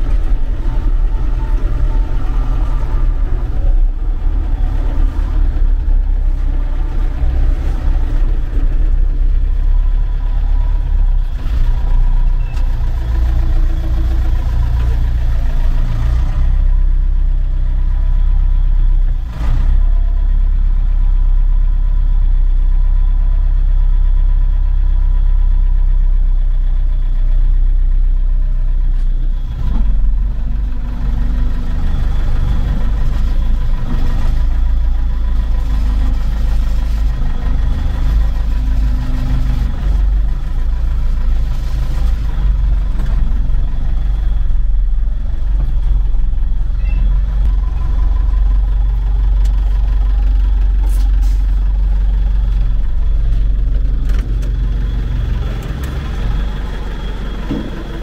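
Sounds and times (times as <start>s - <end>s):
tractor diesel engine drone: 0.0s - 58.0s.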